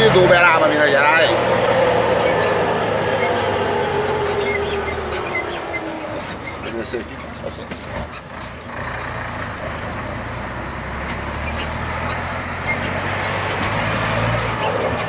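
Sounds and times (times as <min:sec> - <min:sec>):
truck diesel engine drone: 0:00.0 - 0:15.0.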